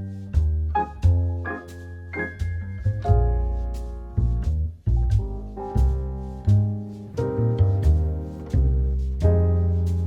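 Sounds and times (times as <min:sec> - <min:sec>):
jazzy music with plucked bass: 0:00.0 - 0:10.0.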